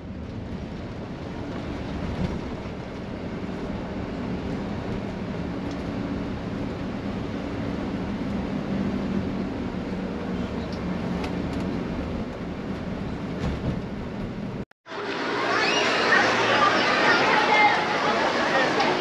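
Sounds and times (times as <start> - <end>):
coach engine drone: 0.0 - 19.0
road rumble: 0.0 - 19.0.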